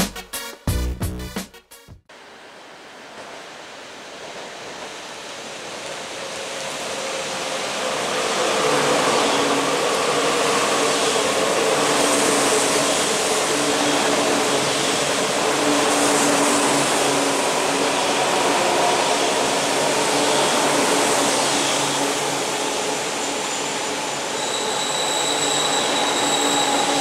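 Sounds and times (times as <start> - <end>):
train rushing past: 2.2 - 27.0.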